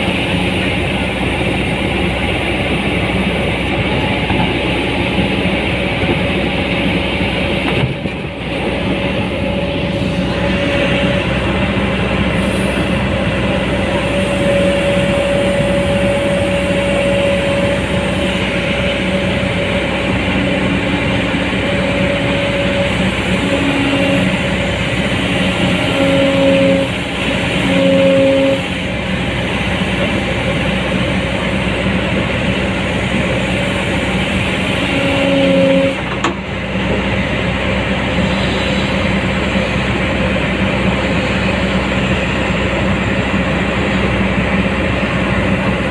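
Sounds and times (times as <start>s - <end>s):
excavator diesel engine running: 0.0s - 45.9s
hydraulic whine: 0.0s - 45.9s.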